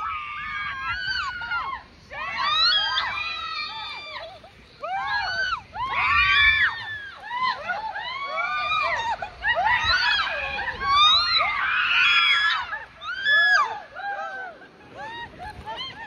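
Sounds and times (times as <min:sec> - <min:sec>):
people screaming: 0:00.0 - 0:16.0.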